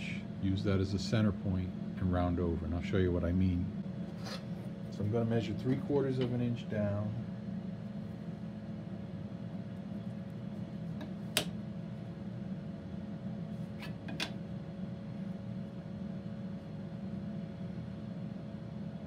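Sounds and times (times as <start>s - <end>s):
low fan hum: 0.0s - 19.0s.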